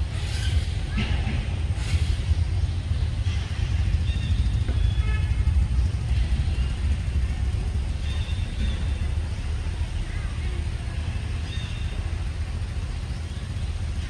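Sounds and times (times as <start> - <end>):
low outdoor rumble: 0.0 - 14.0
faint high chirping calls: 2.2 - 14.0.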